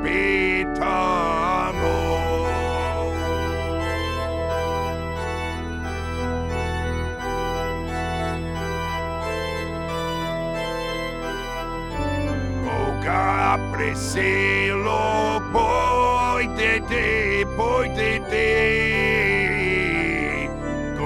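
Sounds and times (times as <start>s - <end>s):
organ-like keyboard chords: 0.0s - 21.0s
steady bass: 0.0s - 21.0s.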